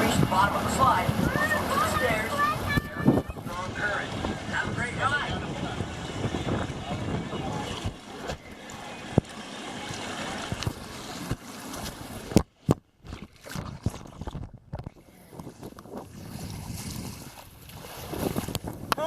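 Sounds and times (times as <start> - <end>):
wind on microphone: 0.0 - 9.3, 13.0 - 19.0
rushing water: 0.0 - 14.5, 15.2 - 19.0.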